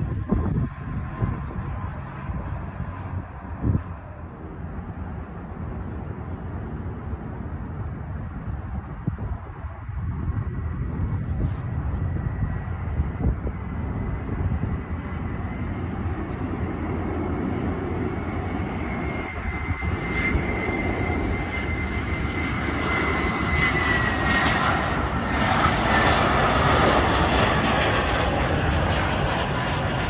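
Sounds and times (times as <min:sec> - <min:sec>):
jet engines passing overhead: 0:00.0 - 0:30.0.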